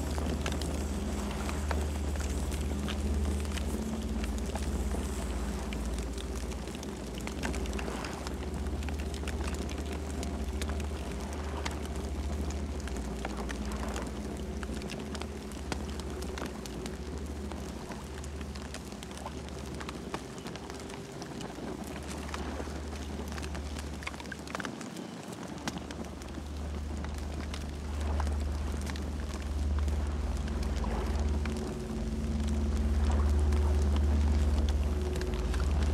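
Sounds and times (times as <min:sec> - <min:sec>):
campfire crackling: 0:00.0 - 0:35.9.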